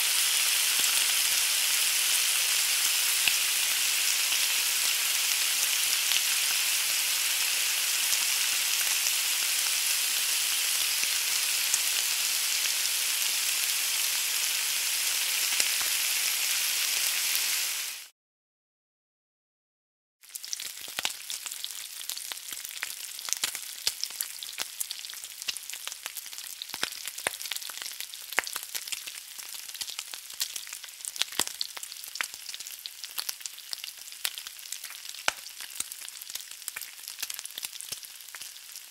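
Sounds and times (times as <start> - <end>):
crackling sizzle with sharp pops: 0.0 - 18.1, 20.2 - 38.9
food sizzling: 0.0 - 18.1, 20.2 - 38.9.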